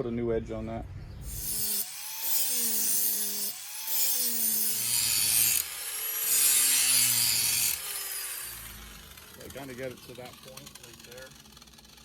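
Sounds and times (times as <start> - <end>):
steel blade grinding rasp: 1.2 - 12.0.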